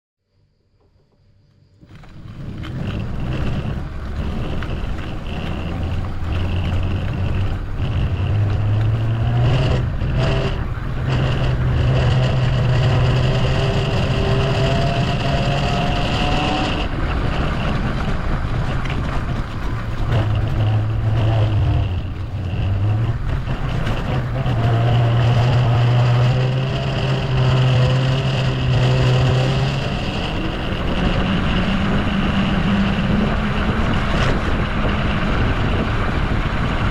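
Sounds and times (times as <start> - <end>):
rising motor whine: 1.8 - 36.9.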